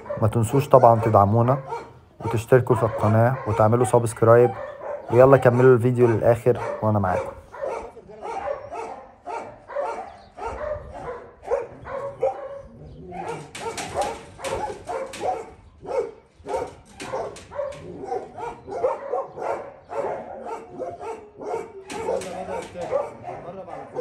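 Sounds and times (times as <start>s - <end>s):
dogs barking: 0.0s - 24.0s.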